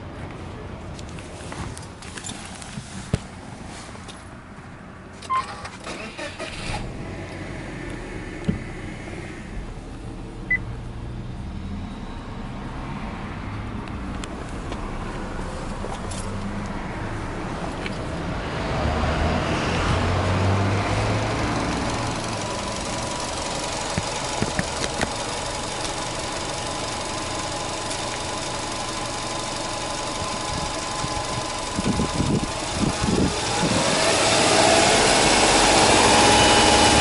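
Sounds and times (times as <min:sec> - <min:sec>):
car engine starting and idling: 0:04.9 - 0:37.0.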